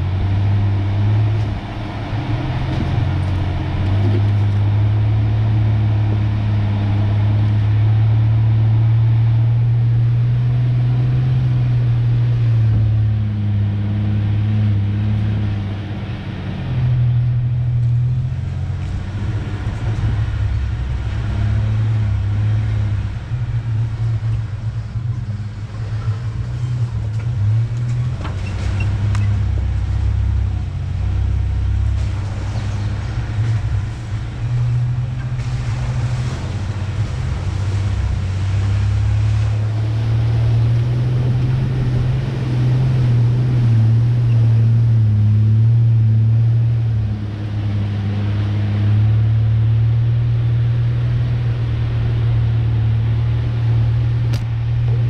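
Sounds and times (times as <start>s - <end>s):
pickup truck engine droning: 0.0s - 55.0s.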